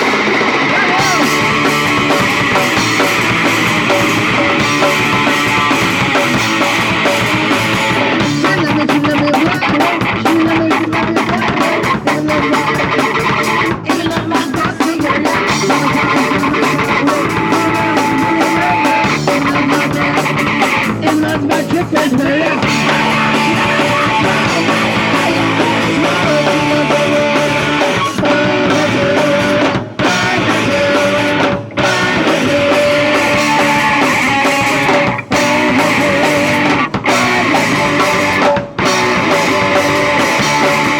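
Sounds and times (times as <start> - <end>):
drum kit: 0.0 - 40.9
electric guitar: 0.0 - 40.9
punk rock band playing live: 0.0 - 40.9.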